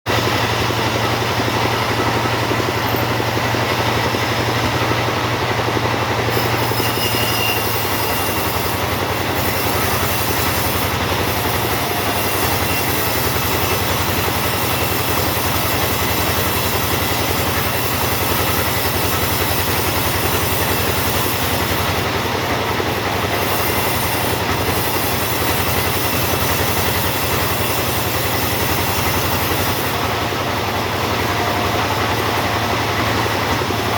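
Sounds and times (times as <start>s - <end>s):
chainsaw sawing wood: 0.2s - 33.9s.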